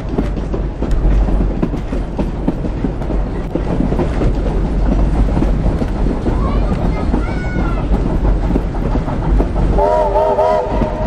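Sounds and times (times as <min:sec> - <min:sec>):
railway carriage rumbling on track: 0:00.0 - 0:11.0
wheels clicking and knocking: 0:00.0 - 0:11.0.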